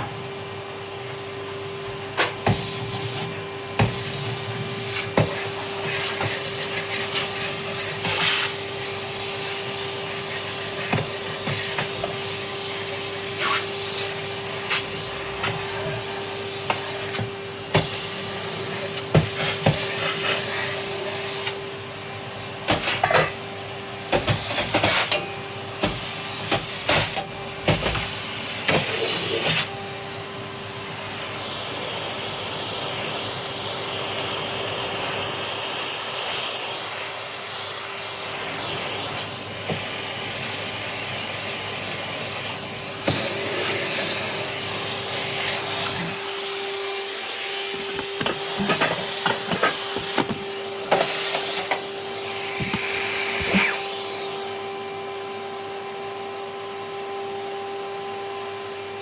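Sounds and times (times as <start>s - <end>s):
vacuum cleaner motor whine: 0.0s - 59.0s
vacuum nozzle sucking and knocking: 1.9s - 23.3s, 24.1s - 30.0s, 30.7s - 54.6s.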